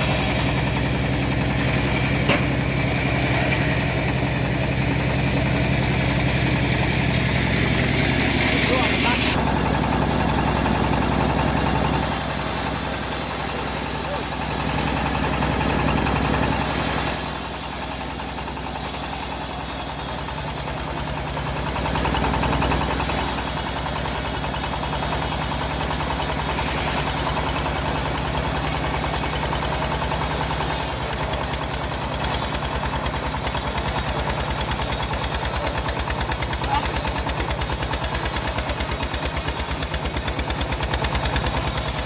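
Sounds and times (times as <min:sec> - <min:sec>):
engine running with low knock: 0:00.0 - 0:42.0.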